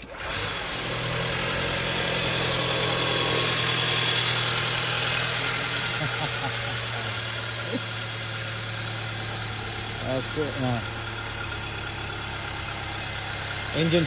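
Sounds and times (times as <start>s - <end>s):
petrol engine idling: 0.0s - 14.0s.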